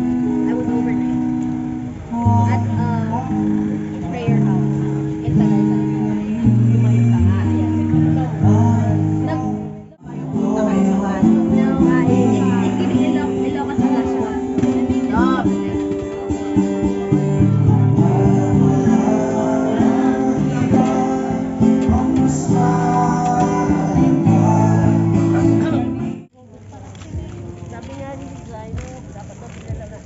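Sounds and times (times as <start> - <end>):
guitar music with singing: 0.0 - 26.3.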